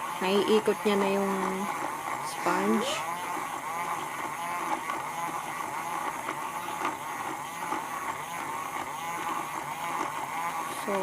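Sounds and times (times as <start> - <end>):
toy washing machine motor humming: 0.0 - 11.0.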